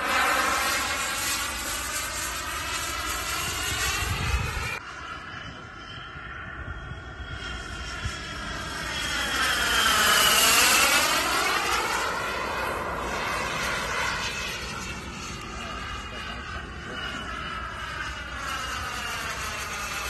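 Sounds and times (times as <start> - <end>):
model jet turbine whine: 0.0 - 20.0.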